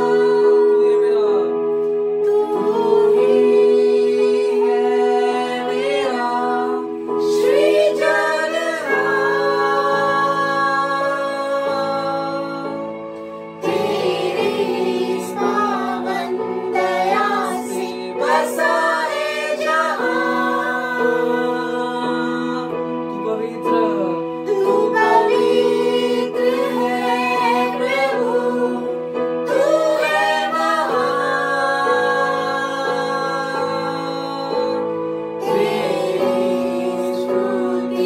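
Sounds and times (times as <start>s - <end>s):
group singing: 2.2s - 12.6s, 13.6s - 22.7s, 24.5s - 38.0s.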